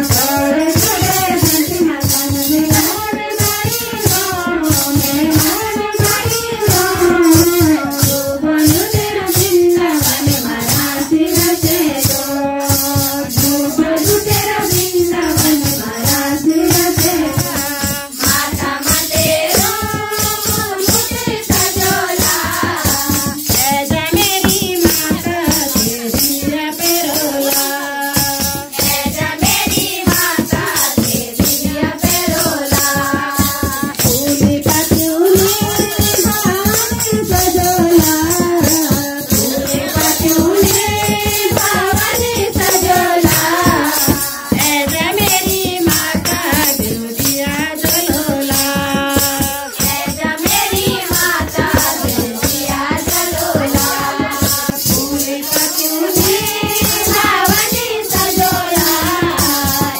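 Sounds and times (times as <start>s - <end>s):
devotional singing: 0.0s - 59.9s
percussion beat: 0.0s - 59.9s.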